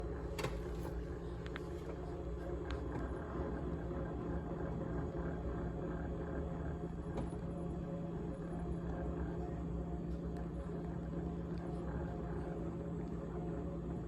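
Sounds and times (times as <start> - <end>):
refrigerator humming and buzzing: 0.0 - 14.0.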